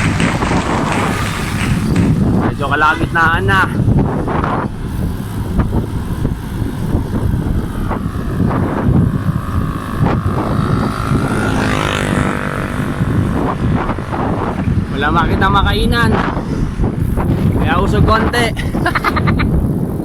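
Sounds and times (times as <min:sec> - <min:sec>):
vehicle engine passing: 0:00.0 - 0:03.9, 0:04.8 - 0:18.2
wind buffeting microphone: 0:00.0 - 0:20.0.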